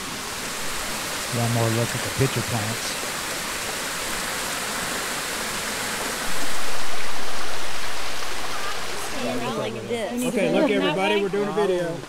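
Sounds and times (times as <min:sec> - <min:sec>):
stream water rushing over rock: 0:00.0 - 0:12.0.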